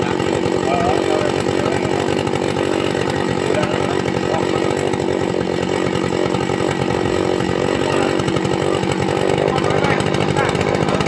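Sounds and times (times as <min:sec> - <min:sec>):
small electric motor buzzing: 0:00.0 - 0:11.0.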